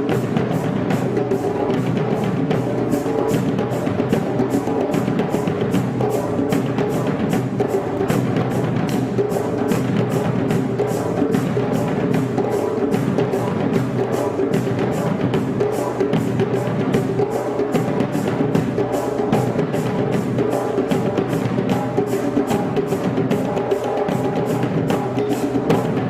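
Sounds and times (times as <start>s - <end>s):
percussion drums fast rhythm: 0.0s - 26.0s.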